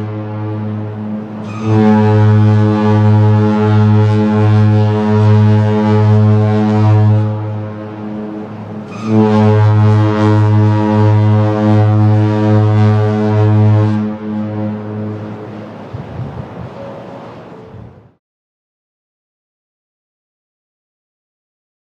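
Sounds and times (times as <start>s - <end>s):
ship air horn blasts: 0.0s - 18.1s.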